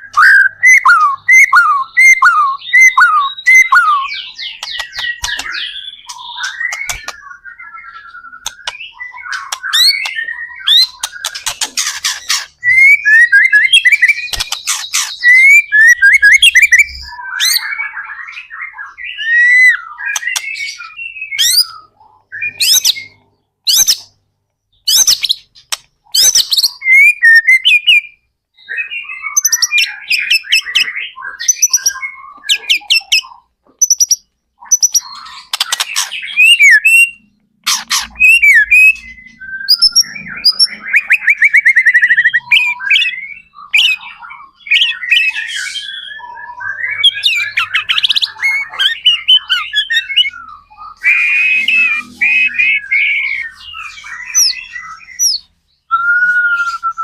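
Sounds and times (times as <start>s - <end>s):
bird singing whistled phrases: 0.0s - 11.6s, 12.6s - 24.0s, 26.2s - 57.0s.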